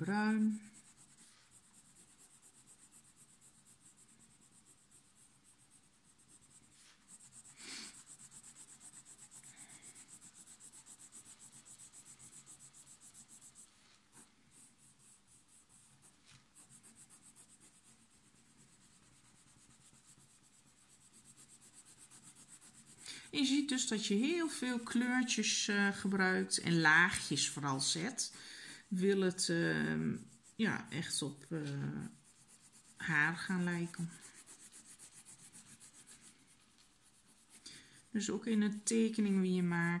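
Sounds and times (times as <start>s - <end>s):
pencil scratching on paper: 0.0s - 40.0s.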